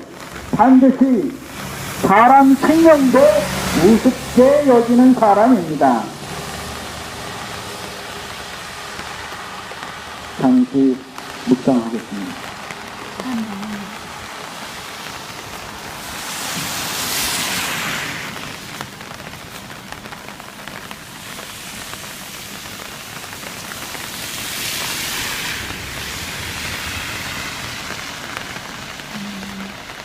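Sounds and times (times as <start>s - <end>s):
rain hissing: 0.0s - 30.0s.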